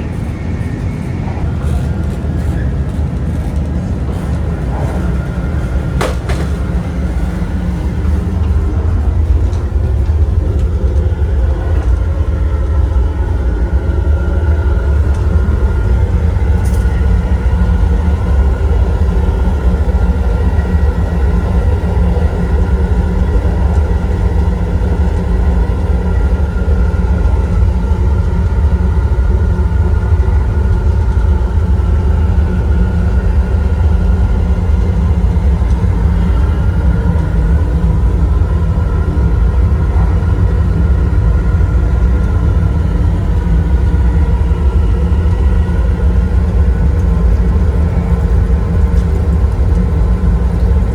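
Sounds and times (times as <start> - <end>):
faint wavering whine: 0.0 - 50.9
train running at speed rumble: 0.0 - 50.9.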